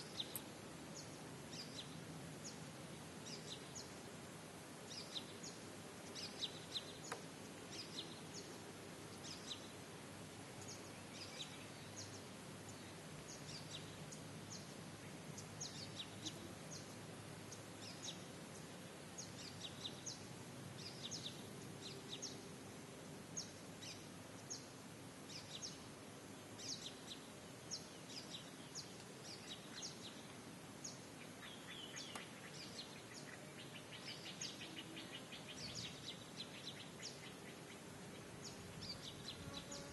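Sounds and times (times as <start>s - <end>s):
small birds chirping: 0.0s - 9.8s, 10.4s - 39.9s
faint steady hiss: 0.0s - 39.9s.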